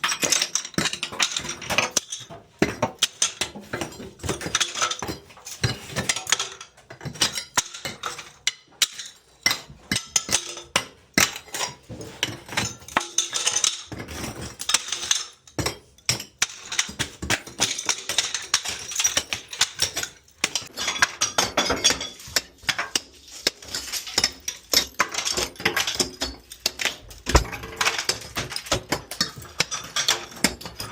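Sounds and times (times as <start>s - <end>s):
broken tile clinking and clattering: 0.0s - 30.9s.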